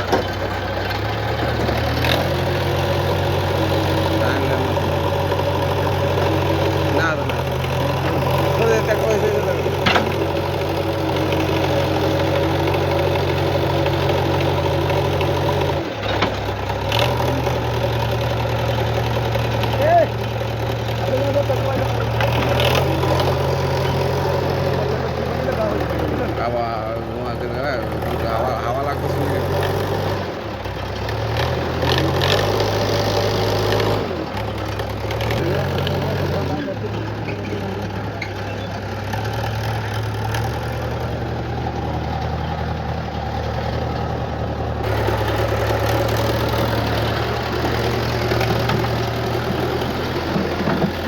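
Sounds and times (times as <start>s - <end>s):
heavy diesel engine idling: 0.0s - 51.0s.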